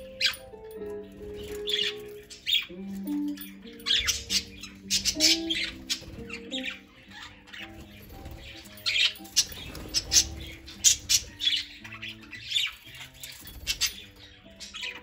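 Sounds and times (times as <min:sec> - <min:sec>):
budgerigars squawking and chirping: 0:00.0 - 0:15.0.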